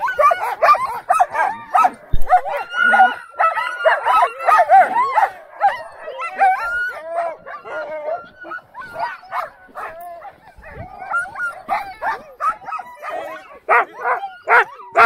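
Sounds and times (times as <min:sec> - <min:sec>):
sled dogs barking: 0:00.0 - 0:15.0.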